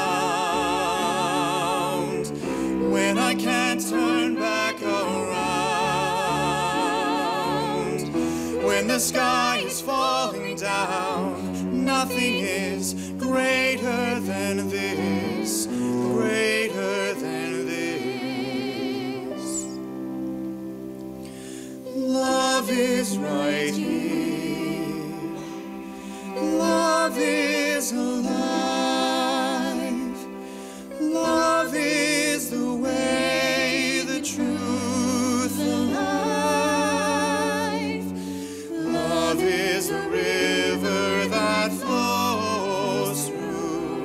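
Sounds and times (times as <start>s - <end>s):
man and woman singing duet: 0.0s - 19.8s, 21.8s - 44.0s
cello: 0.0s - 44.0s
piano: 0.0s - 44.0s.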